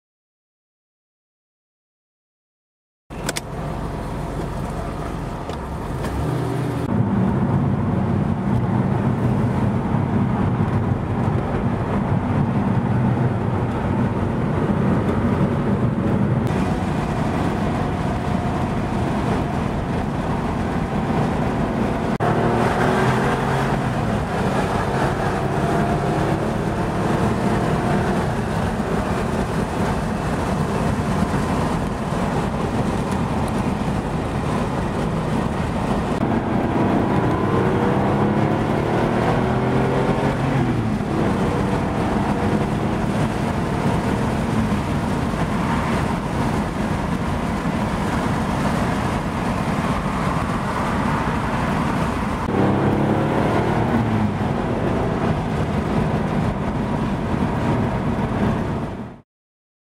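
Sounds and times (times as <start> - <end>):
car engine running: 3.1 - 59.2
road noise: 3.1 - 59.2.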